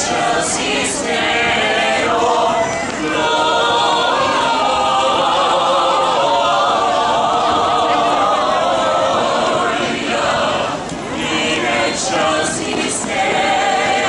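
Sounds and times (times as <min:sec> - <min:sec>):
group singing a cappella: 0:00.0 - 0:14.0.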